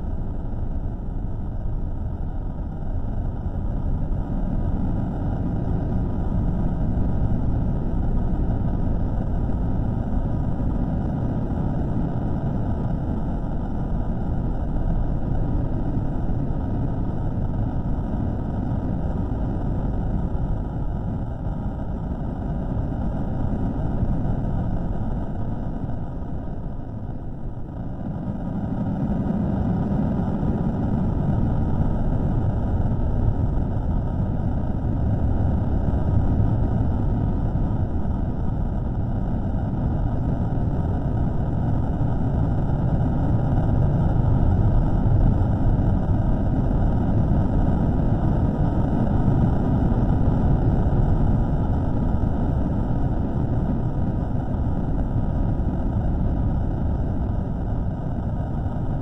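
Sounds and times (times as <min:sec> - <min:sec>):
steady low rumbling: 0:00.0 - 0:59.0.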